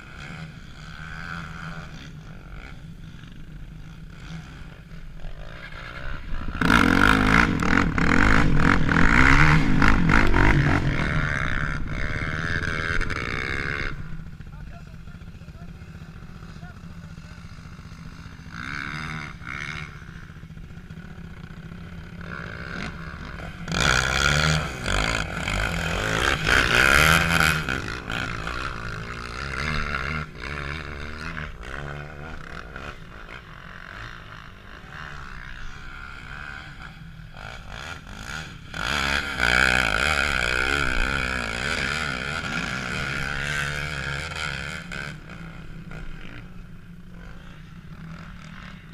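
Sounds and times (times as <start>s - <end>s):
atv engines revving: 0.0s - 48.9s.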